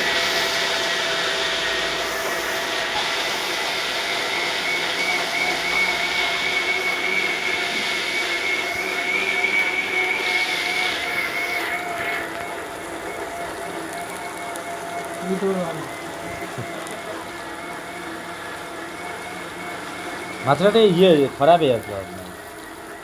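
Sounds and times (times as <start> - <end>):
machine whirring with high whine: 0.0 - 23.0.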